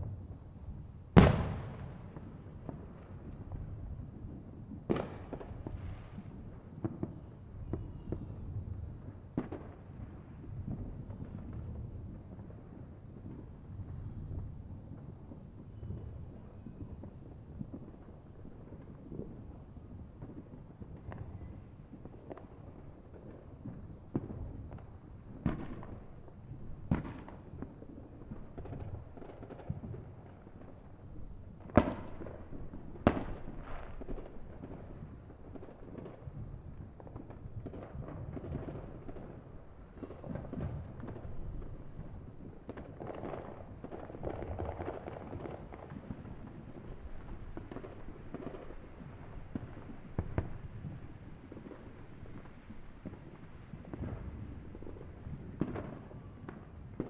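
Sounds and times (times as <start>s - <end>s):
distant fireworks bangs and pops: 0.0s - 57.0s.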